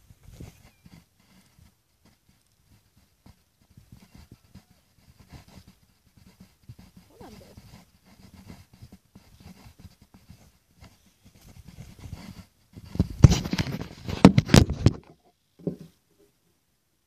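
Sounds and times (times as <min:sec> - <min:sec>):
rubbing against phone microphone: 0:00.0 - 0:16.0
scrapes and clicks: 0:00.2 - 0:15.2.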